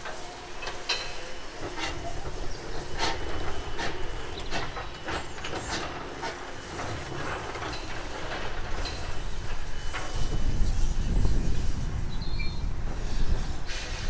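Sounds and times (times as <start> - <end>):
steam hissing: 0.0 - 14.0
steam locomotive exhaust chuffing: 0.0 - 14.0.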